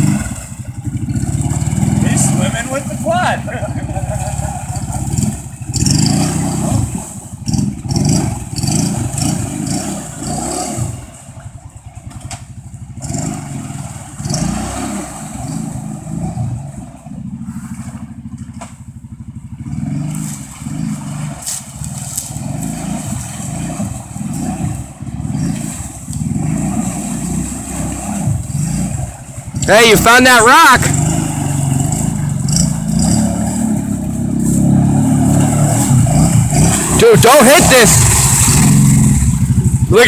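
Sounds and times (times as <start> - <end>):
quad engine revving: 0.0 - 40.0.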